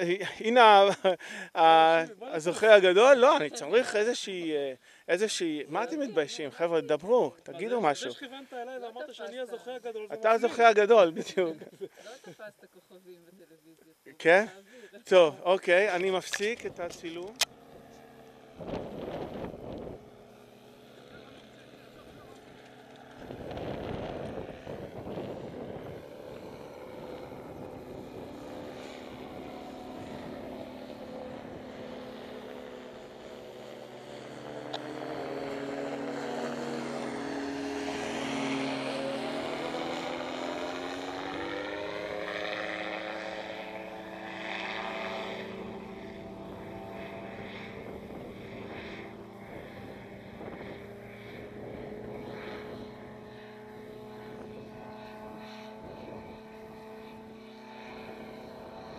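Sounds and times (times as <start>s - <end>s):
propeller aircraft engine droning: 0.0s - 58.9s.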